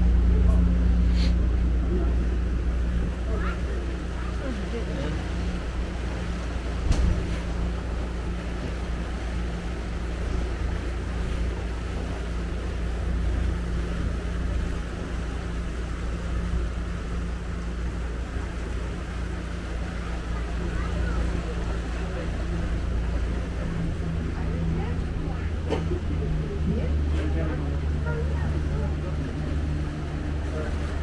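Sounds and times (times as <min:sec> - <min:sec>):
ferry engine droning: 0:00.0 - 0:31.0
water around hull: 0:00.0 - 0:31.0.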